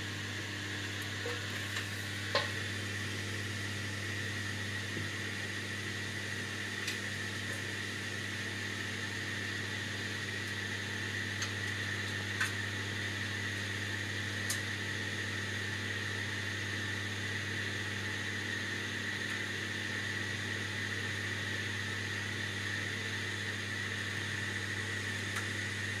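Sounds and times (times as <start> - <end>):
mechanical hum and hiss: 0.0 - 26.0.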